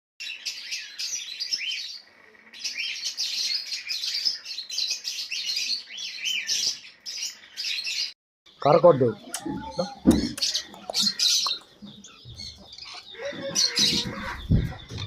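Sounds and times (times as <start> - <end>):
small birds chirping and tweeting: 0.2 - 15.0.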